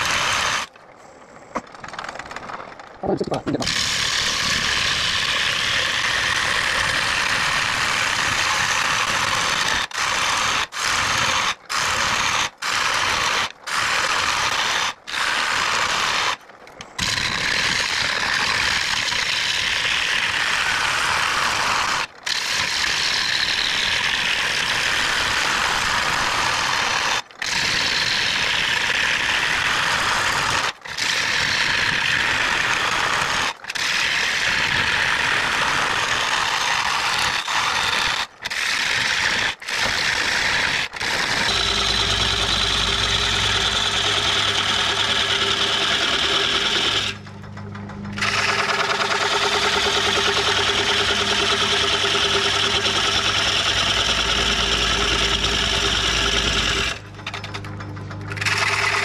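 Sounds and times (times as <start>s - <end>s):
lathe tool scraping wood: 3.4s - 47.3s, 48.1s - 59.0s.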